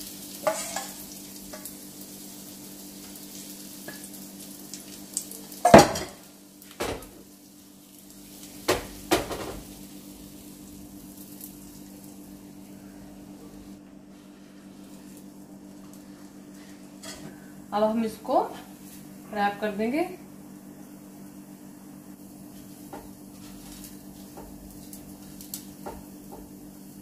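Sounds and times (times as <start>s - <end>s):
batter sizzling on hot pan: 0.0s - 19.2s, 20.4s - 27.0s.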